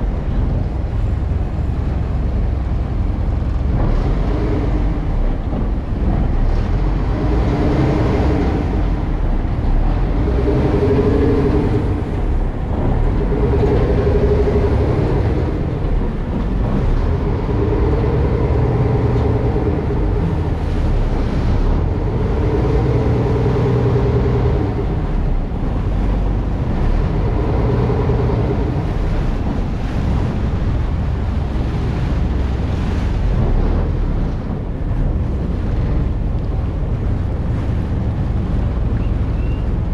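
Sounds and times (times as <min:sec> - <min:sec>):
engine rumble: 0:00.0 - 0:39.9
wind buffeting microphone: 0:00.0 - 0:39.9.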